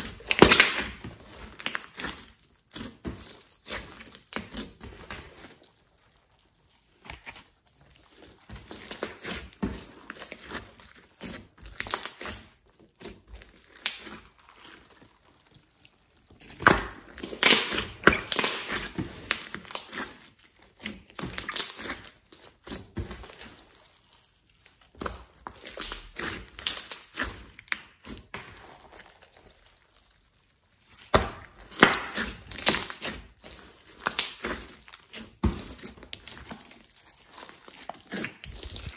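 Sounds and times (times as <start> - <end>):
sticky slime crackles and clicks: 0.0 - 38.9.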